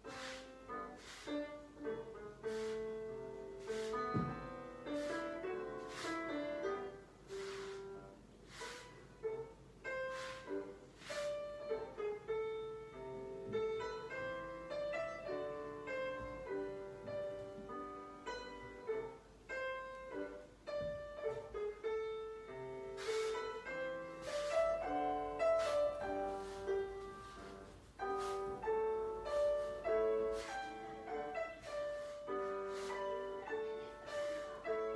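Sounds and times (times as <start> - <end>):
solo piano playing: 0.0 - 34.9.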